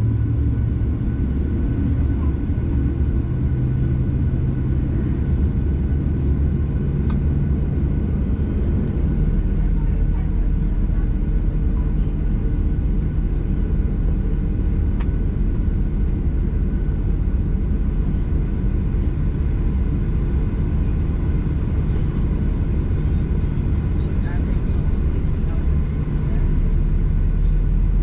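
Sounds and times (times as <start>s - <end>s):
airplane cabin rumble: 0.0s - 28.0s
faint engine tones: 0.0s - 28.0s.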